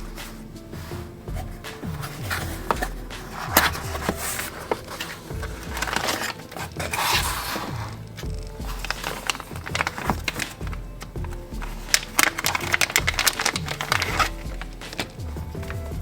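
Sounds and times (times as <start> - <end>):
background music: 0.0 - 16.0
packaging rustling and scraping: 0.0 - 16.0.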